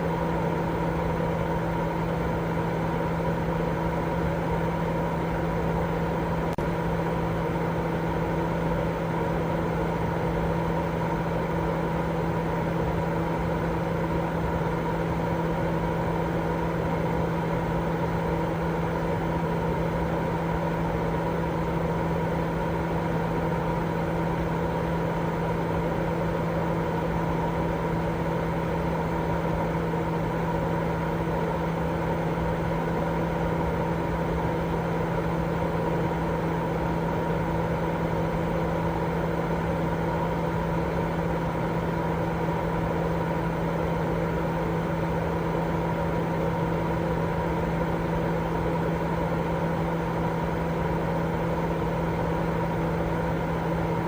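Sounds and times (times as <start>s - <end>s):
steady white noise: 0.0s - 54.0s.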